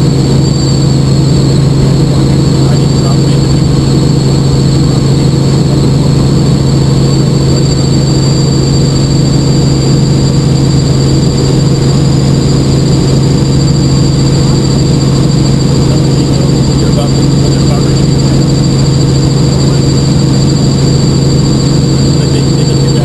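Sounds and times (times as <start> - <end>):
helicopter engine and rotors droning: 0.0 - 23.0.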